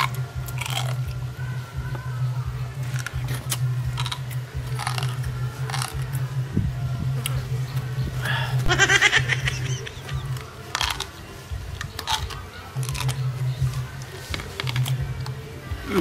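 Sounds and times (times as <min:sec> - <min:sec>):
low hum: 0:00.0 - 0:16.0
man chewing noisily: 0:00.0 - 0:16.0.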